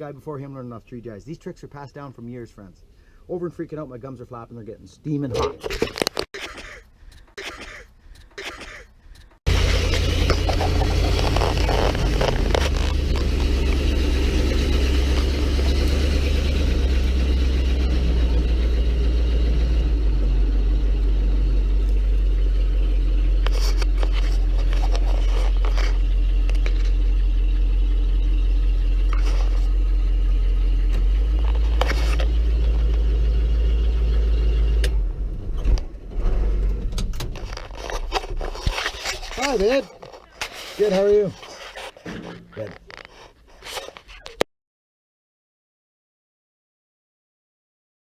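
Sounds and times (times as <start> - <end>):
vehicle engine and road rumble: 4.4 - 44.4.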